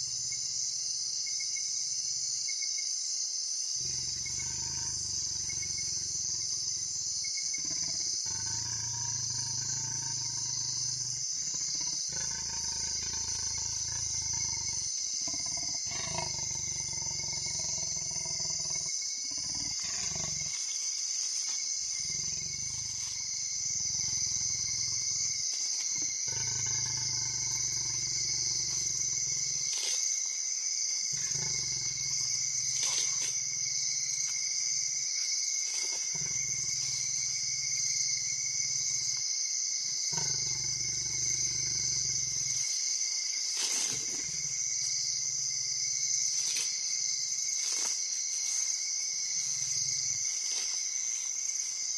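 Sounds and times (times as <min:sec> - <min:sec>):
night insects chorus: 0:00.0 - 0:51.9
leopard growling low: 0:03.8 - 0:30.0, 0:31.0 - 0:51.3.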